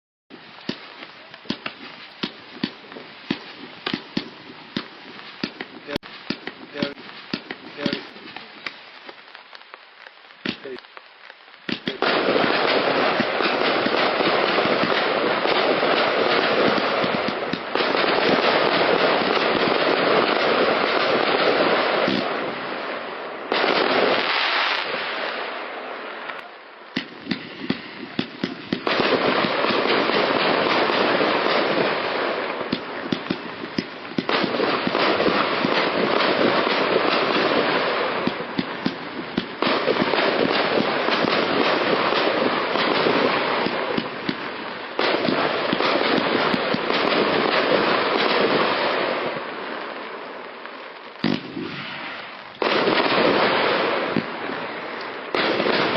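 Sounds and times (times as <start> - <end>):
firework shots and crackling: 0.3 - 55.9.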